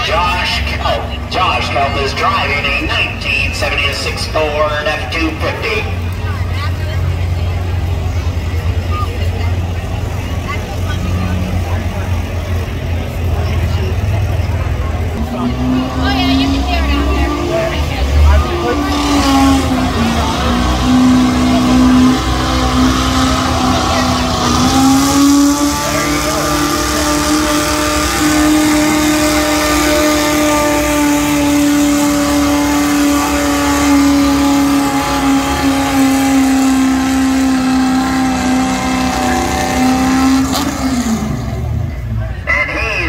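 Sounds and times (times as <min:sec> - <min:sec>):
truck engine at high revs: 0:00.0 - 0:43.0.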